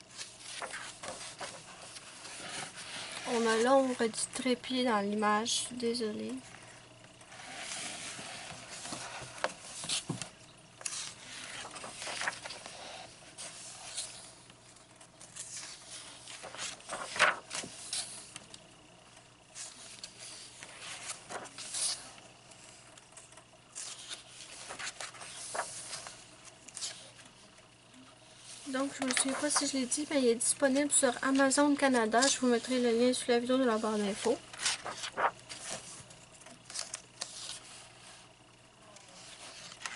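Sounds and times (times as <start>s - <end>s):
paper pages rustling: 0.0s - 4.2s, 7.3s - 18.6s, 19.5s - 27.7s, 28.4s - 30.1s, 30.7s - 38.3s, 38.9s - 39.9s.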